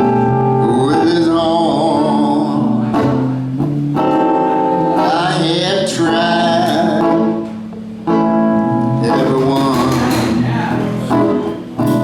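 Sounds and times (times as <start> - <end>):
harmonica chords: 0.0 - 12.0.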